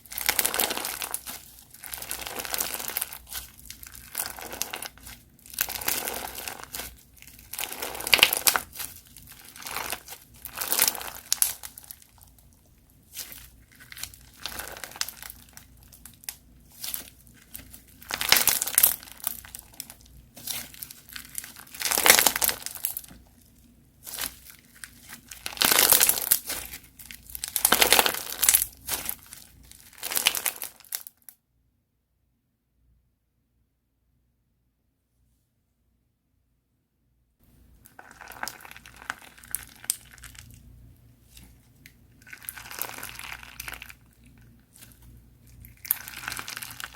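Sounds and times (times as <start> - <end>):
crunchy slime crackling: 0.0 - 31.2, 37.8 - 46.9.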